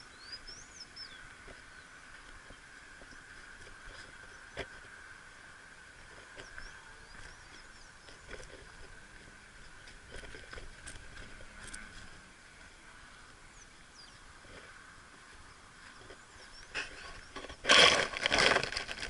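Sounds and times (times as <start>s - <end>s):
steady high hum: 0.0s - 17.7s.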